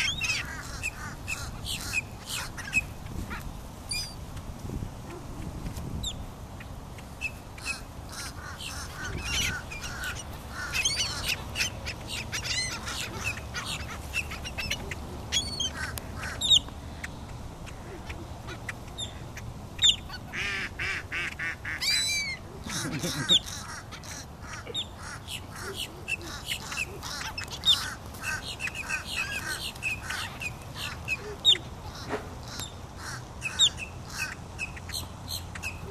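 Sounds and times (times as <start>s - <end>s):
ducks and birds calling: 0.0s - 4.2s, 5.0s - 35.9s.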